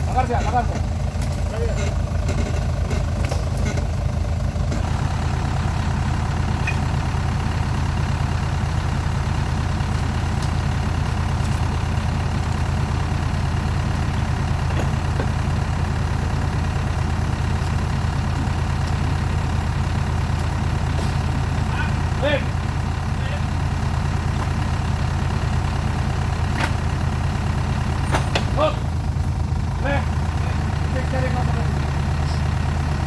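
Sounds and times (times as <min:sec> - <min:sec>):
vehicle engine running at low revs: 0:00.0 - 0:33.0.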